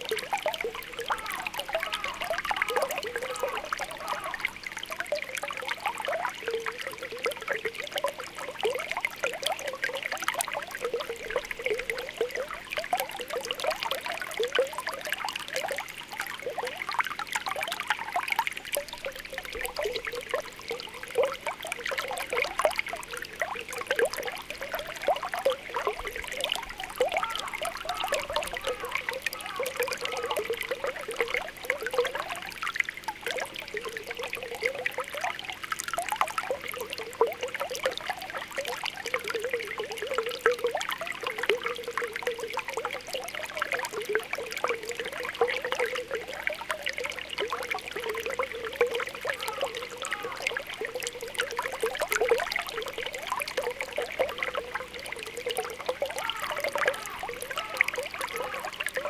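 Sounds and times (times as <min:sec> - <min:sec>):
bubbling spring water: 0:00.0 - 0:59.0
gentle trickling flow: 0:00.0 - 0:59.0.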